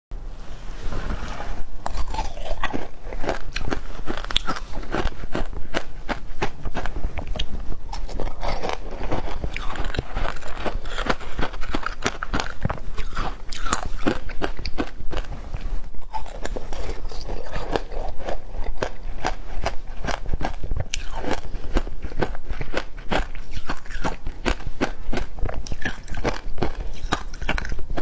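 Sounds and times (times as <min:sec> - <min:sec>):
crunching and chewing ice: 0:01.7 - 0:28.0.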